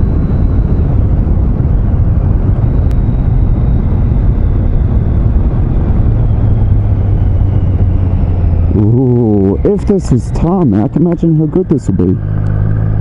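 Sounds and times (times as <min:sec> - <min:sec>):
motorcycle engine running: 0:00.0 - 0:13.0
wind and tyres on gravel: 0:00.0 - 0:13.0.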